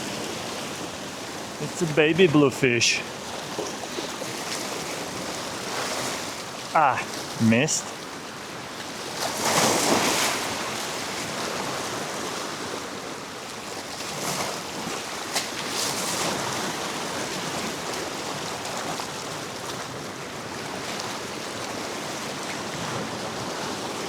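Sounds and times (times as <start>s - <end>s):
surf washing against rocks: 0.0s - 20.0s.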